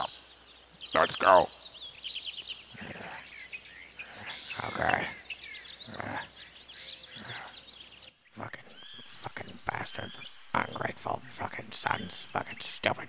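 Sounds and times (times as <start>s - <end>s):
woodland birds chirping: 0.0s - 13.0s.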